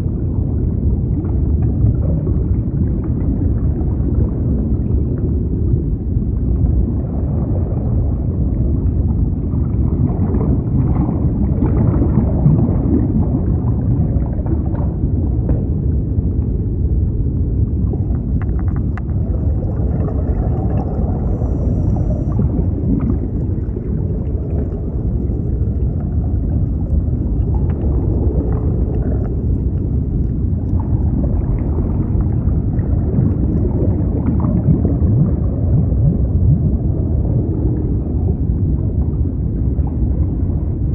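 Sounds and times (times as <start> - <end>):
underwater rumble of moving water: 0.0 - 40.9
water gurgling: 0.0 - 40.9.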